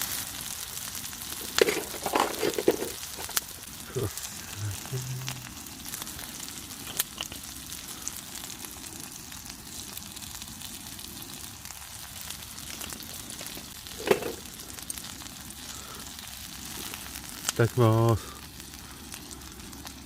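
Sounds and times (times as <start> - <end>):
campfire crackling and hissing: 0.0 - 20.0
fire popping: 0.0 - 20.0.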